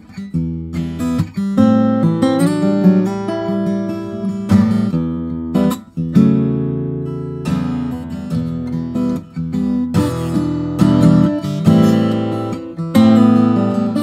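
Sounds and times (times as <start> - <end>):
acoustic guitar plucked: 0.0 - 14.0.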